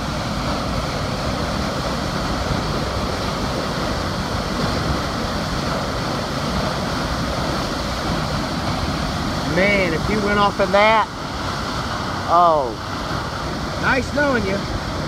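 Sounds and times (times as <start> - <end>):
water rushing through spillway: 0.0 - 15.0.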